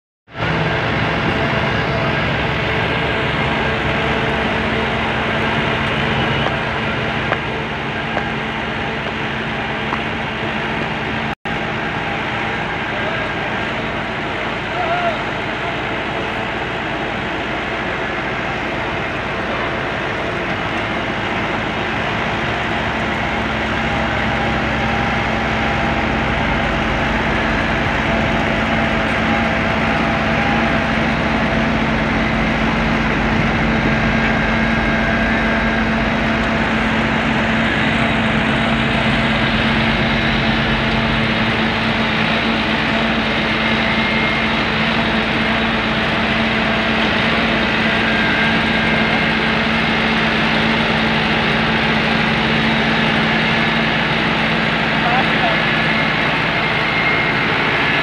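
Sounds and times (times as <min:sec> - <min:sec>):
diesel engine running: 0:00.3 - 0:58.0.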